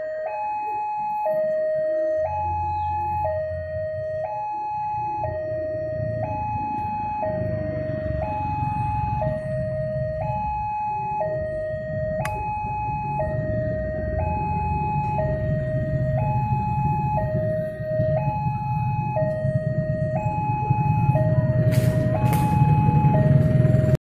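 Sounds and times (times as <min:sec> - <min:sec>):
level crossing two-tone alarm: 0:00.0 - 0:24.0
low traffic engine rumble: 0:00.2 - 0:24.0.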